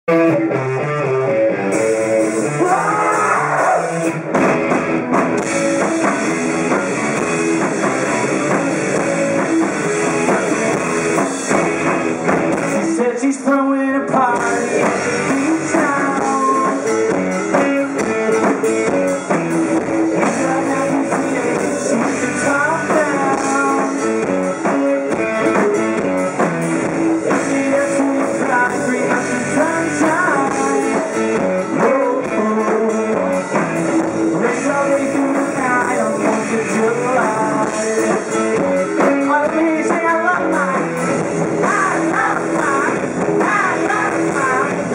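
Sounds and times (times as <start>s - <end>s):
bass guitar: 0.0s - 44.9s
electric guitar: 0.0s - 44.9s
drum kit: 0.1s - 44.9s.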